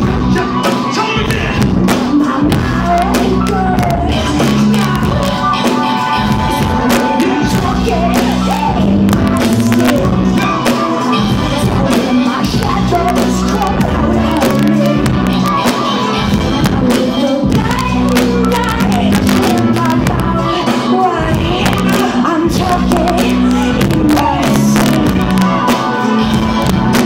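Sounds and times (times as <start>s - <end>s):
crowd noise: 0.0s - 27.0s
live band playing: 0.0s - 27.0s
person singing: 0.0s - 27.0s.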